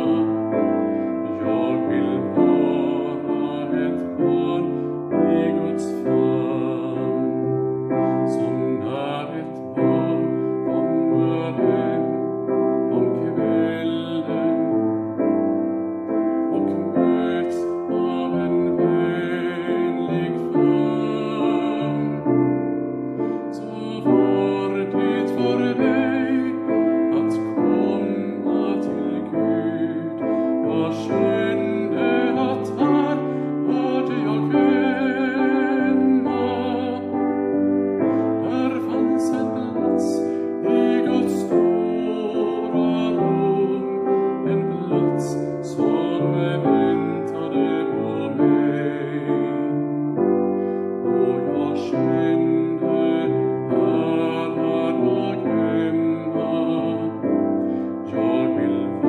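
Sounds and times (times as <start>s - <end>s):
man singing with vibrato: 0.0s - 59.0s
piano accompaniment: 0.0s - 59.0s.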